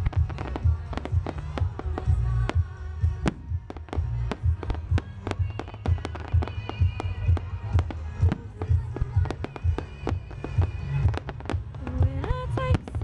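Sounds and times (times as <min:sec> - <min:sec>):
fireworks cracking and popping: 0:00.0 - 0:13.0
fireworks low thumps: 0:00.0 - 0:13.0
music playing: 0:00.0 - 0:13.0.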